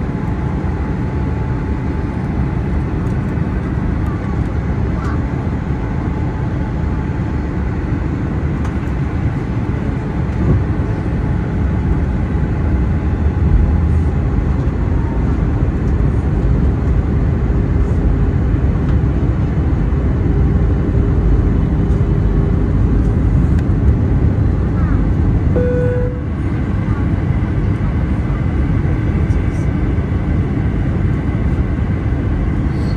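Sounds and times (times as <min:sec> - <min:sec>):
airplane cabin rumble: 0:00.0 - 0:32.9.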